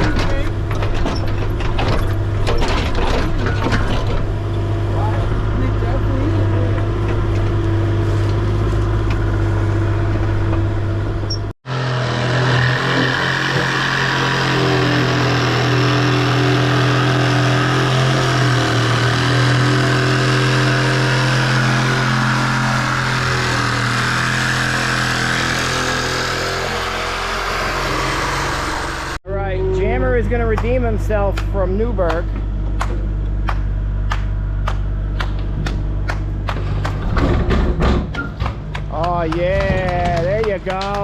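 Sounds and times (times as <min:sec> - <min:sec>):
large engine running: 0:00.0 - 0:41.0.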